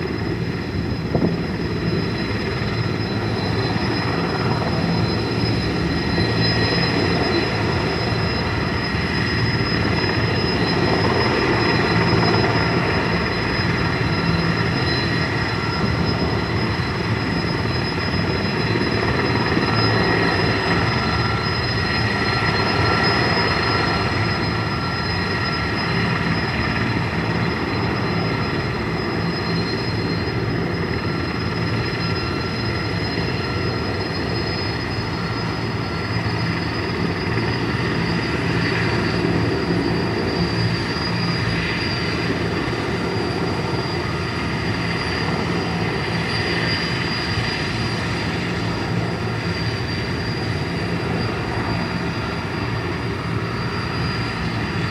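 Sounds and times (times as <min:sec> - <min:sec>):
helicopter turbine and rotor: 0:00.0 - 0:54.9.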